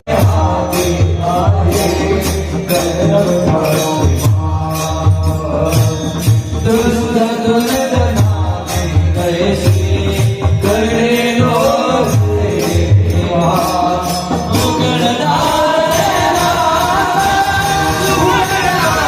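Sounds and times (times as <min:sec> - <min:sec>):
man singing: 0:00.0 - 0:19.0
rhythmic percussion: 0:00.0 - 0:19.0.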